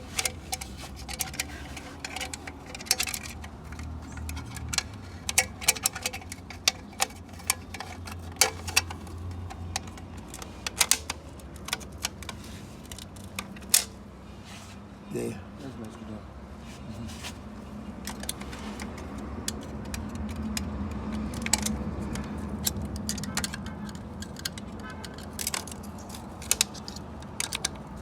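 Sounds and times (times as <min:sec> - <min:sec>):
metal parts clinking: 0:00.0 - 0:14.0, 0:18.0 - 0:28.0.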